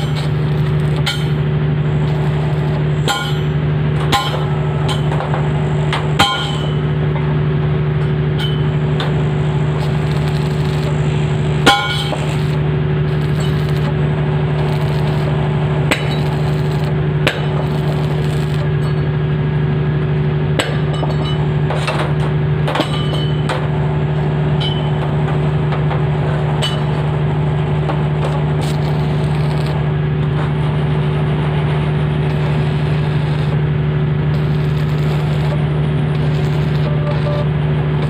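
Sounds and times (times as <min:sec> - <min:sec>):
loud machine hum: 0:00.0 - 0:38.0.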